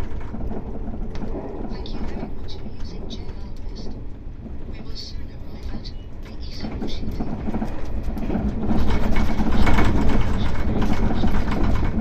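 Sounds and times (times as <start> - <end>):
train rumble: 0.0 - 12.0
wheels clicking over rails: 0.0 - 12.0.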